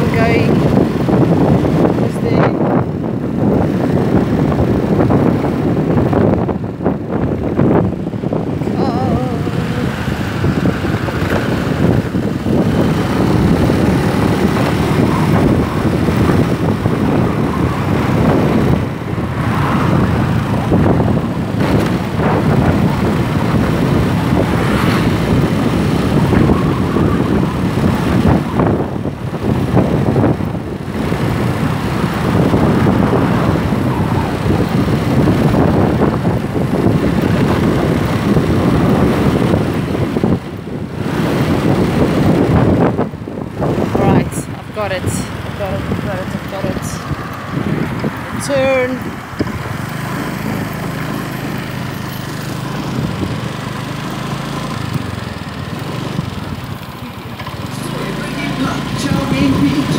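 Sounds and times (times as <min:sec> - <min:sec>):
scooter engine running: 0:00.0 - 0:59.9
wind buffeting microphone: 0:00.0 - 0:59.9.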